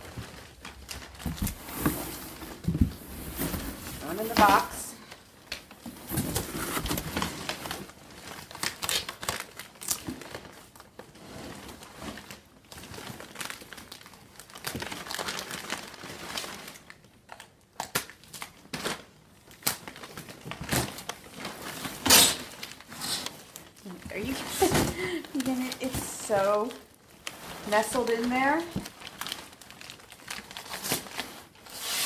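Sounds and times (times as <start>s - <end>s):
packing paper crinkling: 0.0s - 32.0s.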